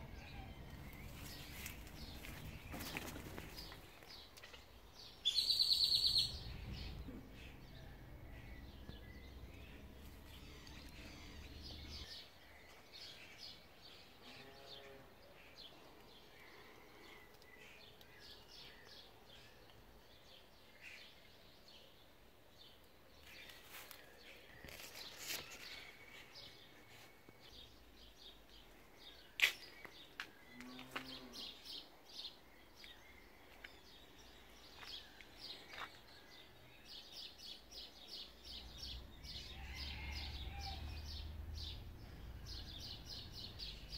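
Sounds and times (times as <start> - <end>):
faint birds chirping: 0.0 - 43.9.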